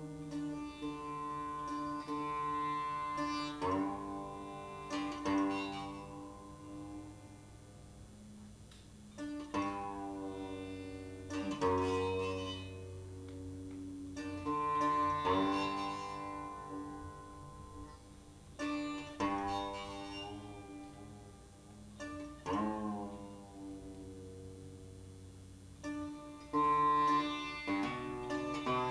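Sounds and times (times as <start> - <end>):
sitar plucked strokes: 0.0 - 28.9.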